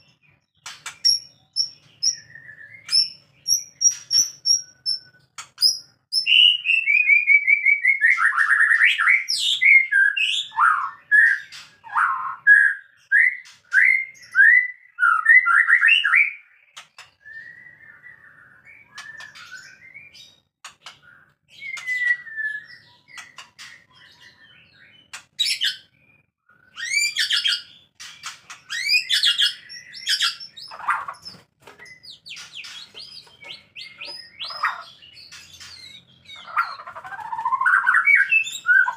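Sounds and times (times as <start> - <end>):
bird calling with whistled notes: 0.0 - 38.9
bird chirps: 0.0 - 38.9.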